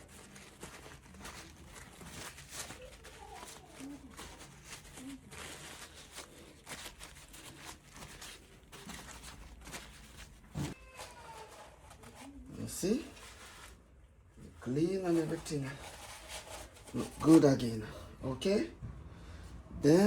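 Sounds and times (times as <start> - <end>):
rubbing and scraping engine parts: 0.0 - 20.0.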